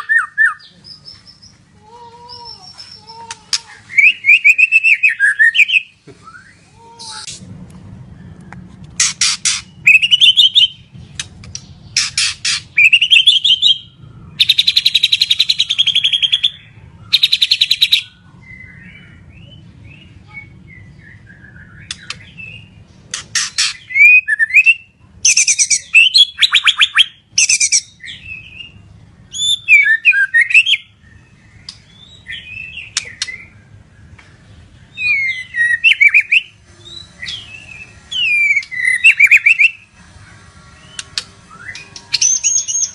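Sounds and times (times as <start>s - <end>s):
bird singing trills: 0.0s - 7.3s, 8.1s - 42.9s.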